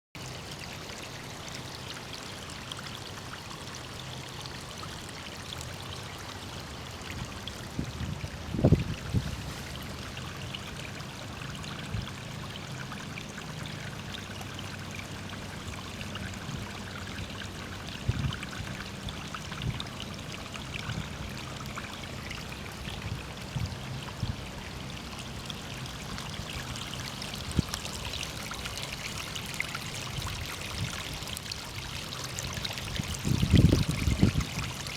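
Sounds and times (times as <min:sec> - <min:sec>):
stream trickling over stones: 0:00.2 - 0:34.9.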